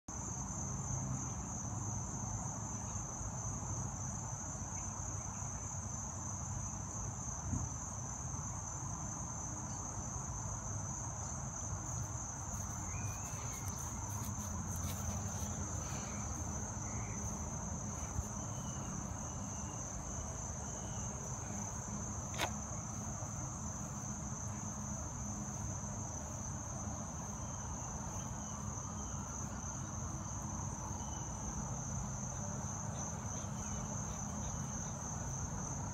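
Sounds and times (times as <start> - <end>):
insects trilling: 0.2 - 35.9.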